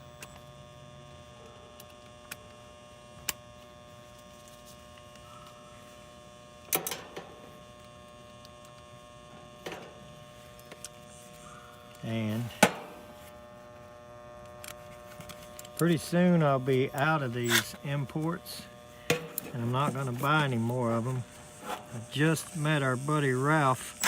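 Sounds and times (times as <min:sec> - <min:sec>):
electrical contactor humming: 0:00.0 - 0:24.0.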